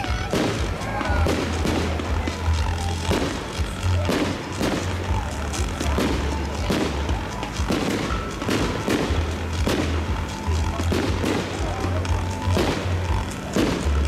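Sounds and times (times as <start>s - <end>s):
fireworks firing sharp bangs: 0.0s - 14.0s
music with heavy bass: 0.0s - 14.0s.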